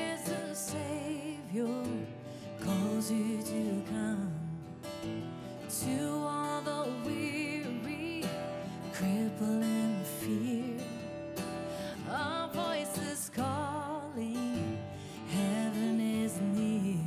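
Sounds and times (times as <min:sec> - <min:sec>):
person singing with vibrato: 0:00.0 - 0:04.8, 0:05.5 - 0:17.0
acoustic guitar: 0:00.0 - 0:17.0.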